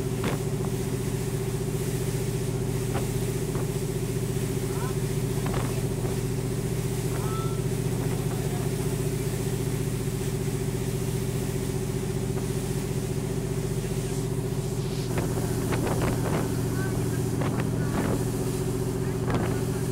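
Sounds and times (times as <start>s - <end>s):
boat engine running: 0.0s - 19.9s.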